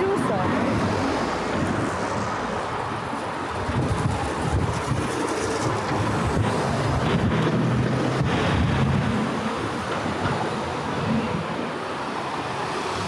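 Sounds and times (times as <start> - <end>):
wind on microphone: 0.0 - 11.6
vehicles passing: 0.0 - 13.0.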